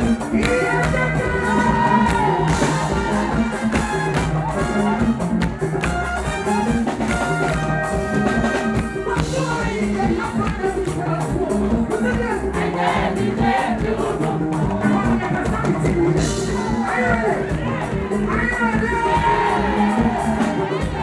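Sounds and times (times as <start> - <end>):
live band music: 0.0 - 21.0.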